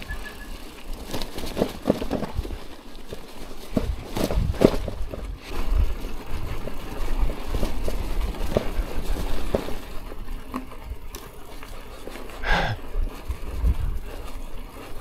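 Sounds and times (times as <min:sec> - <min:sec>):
bicycle knocks and rattles: 0:00.0 - 0:12.1
wind and tyres rumbling: 0:00.0 - 0:15.0.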